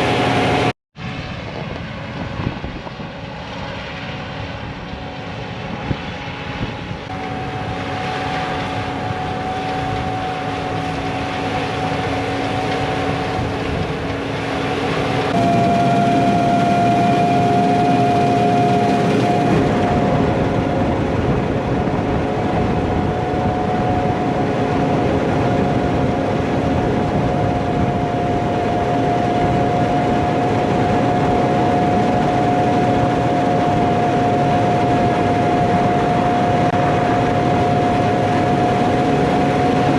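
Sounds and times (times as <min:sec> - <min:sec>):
farm machinery engine: 0:00.0 - 0:39.9
steady high whine: 0:00.0 - 0:39.9.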